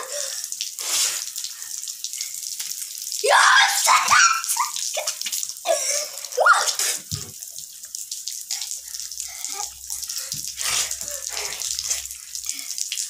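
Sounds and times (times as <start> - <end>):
water splashing like rain: 0.0 - 13.0.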